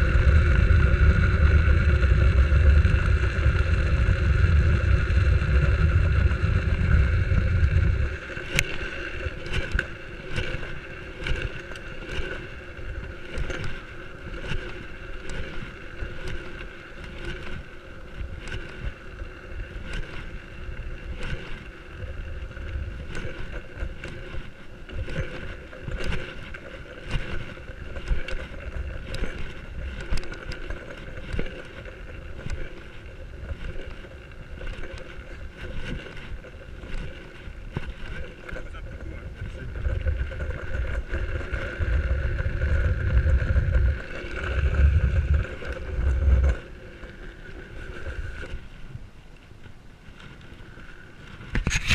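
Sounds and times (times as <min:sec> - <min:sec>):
faint steady whine: 0:00.0 - 0:51.9
wheels rolling on asphalt: 0:00.0 - 0:51.9
wind buffeting microphone: 0:00.0 - 0:51.9.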